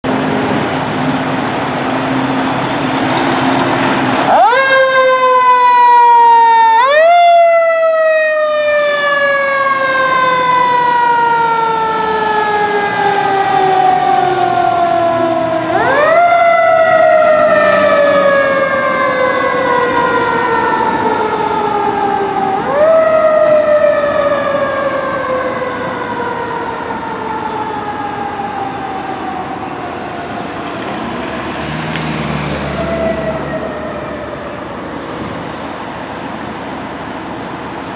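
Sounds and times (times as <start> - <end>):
fire engine siren wailing: 0.0 - 37.9
truck engine and road noise: 0.0 - 37.9.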